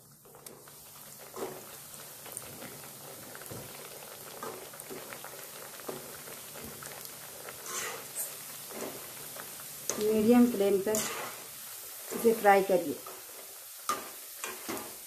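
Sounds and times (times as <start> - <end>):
bread sizzling in hot oil: 0.0 - 15.0.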